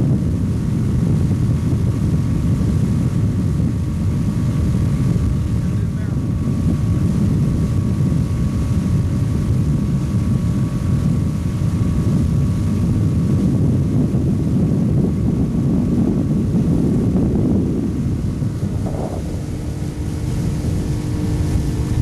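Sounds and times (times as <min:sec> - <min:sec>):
outboard motor running: 0:00.0 - 0:22.0
wind on microphone: 0:00.0 - 0:22.0.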